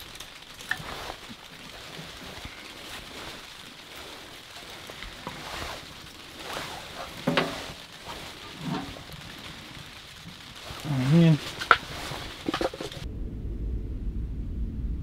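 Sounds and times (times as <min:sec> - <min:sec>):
fire crackling in metal stove: 0:00.0 - 0:13.1.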